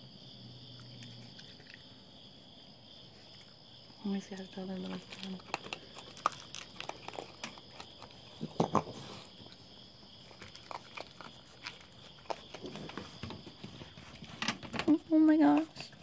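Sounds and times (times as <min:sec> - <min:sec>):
crickets chirring: 0:00.0 - 0:16.0
raccoons eating dry food: 0:00.6 - 0:02.1, 0:03.0 - 0:16.0.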